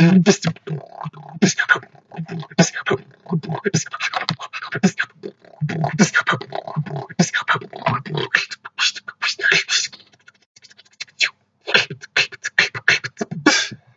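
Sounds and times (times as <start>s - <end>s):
beatboxing: 0.0s - 13.9s.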